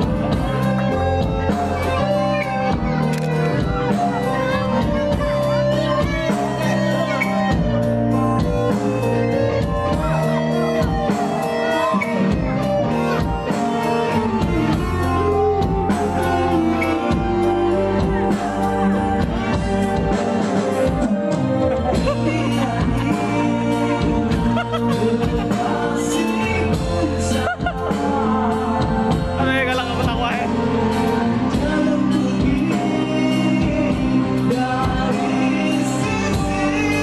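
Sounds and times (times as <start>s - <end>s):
electric guitar melody: 0.0s - 37.0s
electronic keyboard melody: 0.0s - 37.0s.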